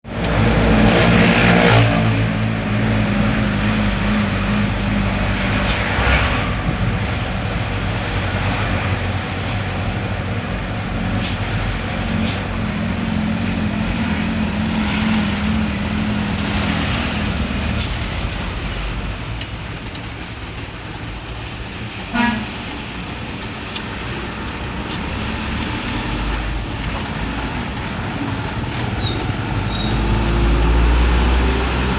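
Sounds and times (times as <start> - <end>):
dump truck engine humming: 0.1 - 31.9.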